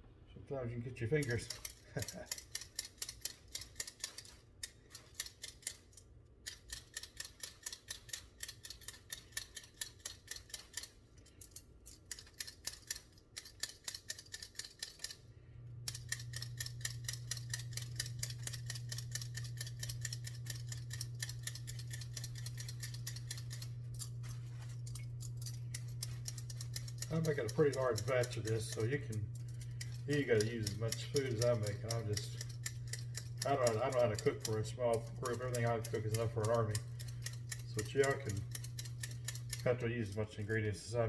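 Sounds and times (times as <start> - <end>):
steady low hum: 0.0 - 41.0
potato peeling scrapes: 1.0 - 15.2, 15.8 - 40.9.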